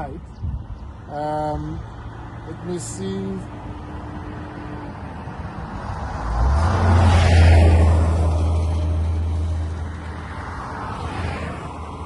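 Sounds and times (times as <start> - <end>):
vehicle passing by: 1.3 - 12.0.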